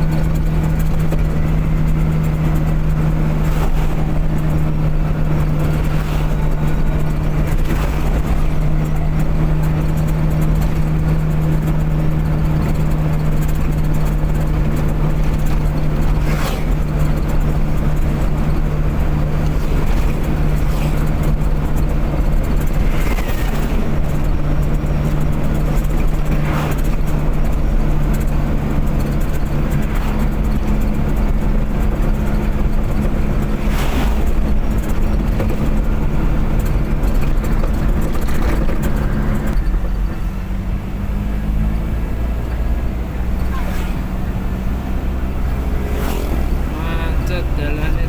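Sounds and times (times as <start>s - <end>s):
car engine drone: 0.0s - 48.0s
road and tyre noise: 0.0s - 48.0s.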